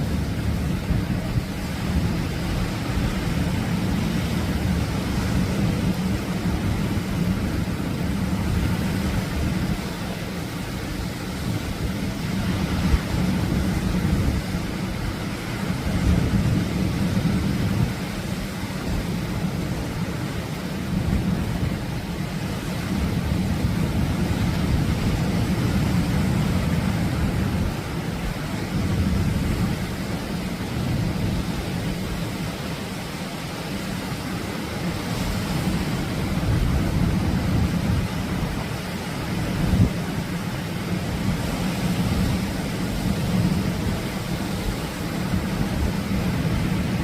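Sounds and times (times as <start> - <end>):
low surf rumble: 0.0 - 47.0
waves breaking on beach: 0.0 - 47.0.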